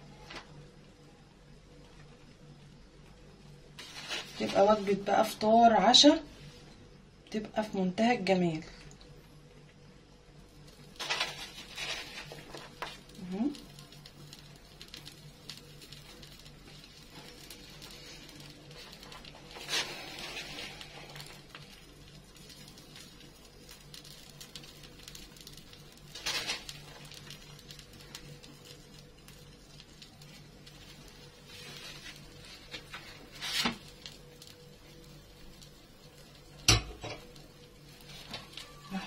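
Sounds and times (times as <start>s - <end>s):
food crackling in a frying pan: 1.6s - 6.7s, 7.3s - 39.0s.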